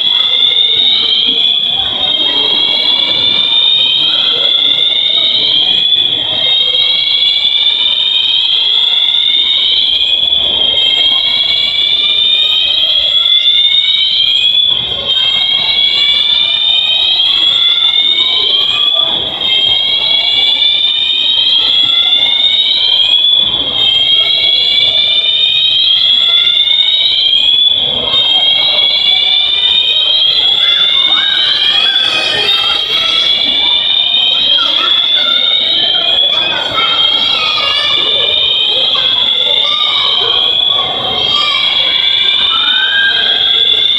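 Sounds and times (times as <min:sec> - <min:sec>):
fire alarm whooping: 0:00.0 - 0:43.9.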